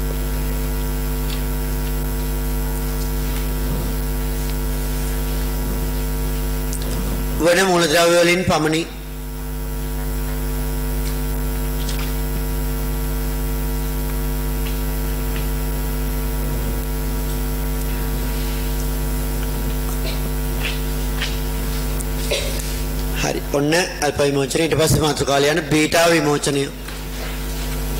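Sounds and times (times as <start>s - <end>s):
electrical mains hum: 0.0s - 27.9s.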